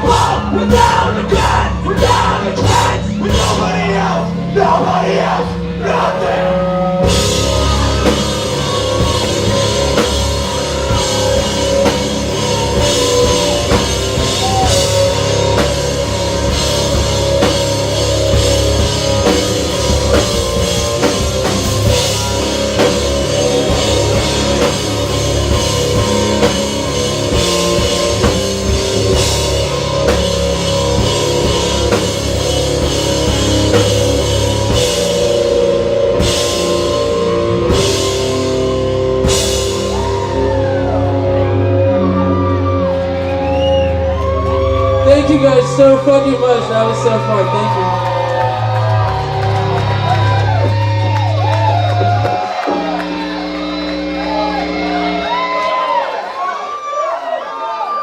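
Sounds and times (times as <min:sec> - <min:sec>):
live rock band playing: 0:00.0 - 0:57.2.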